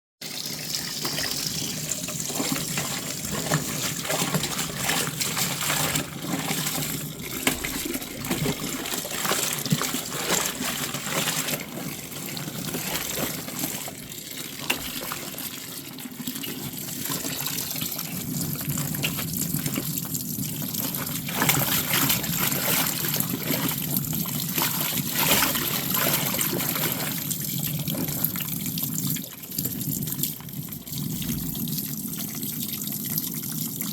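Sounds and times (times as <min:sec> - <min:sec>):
soapy water sloshing: 0:01.0 - 0:31.6.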